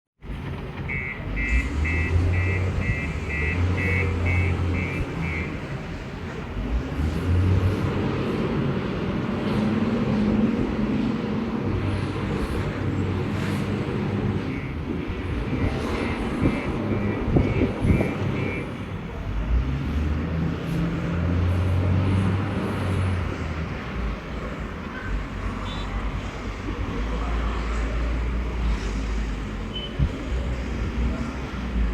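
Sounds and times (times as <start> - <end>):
truck engines rumbling: 0.2 - 31.9.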